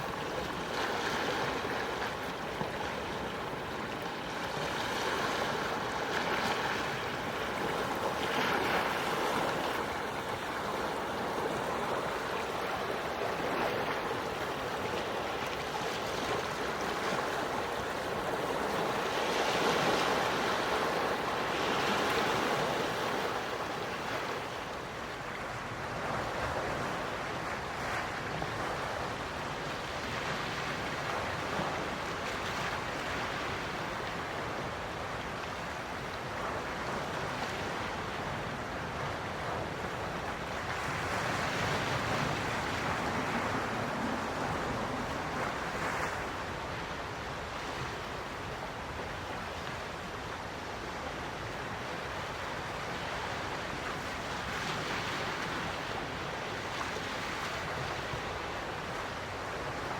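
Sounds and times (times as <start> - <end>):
sea waves washing onto shore: 0.0 - 59.9.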